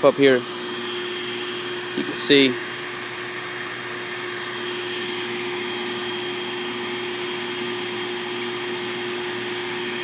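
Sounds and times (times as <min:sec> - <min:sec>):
vacuum motor hum with hiss: 0:00.0 - 0:10.0.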